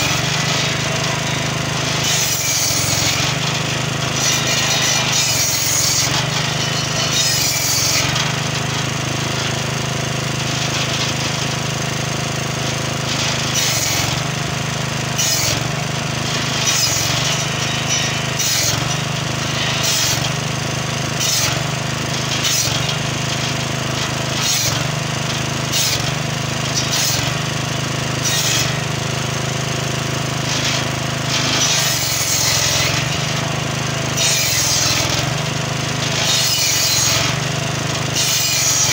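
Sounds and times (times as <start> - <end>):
saw blade cutting logs: 0.0 - 38.9.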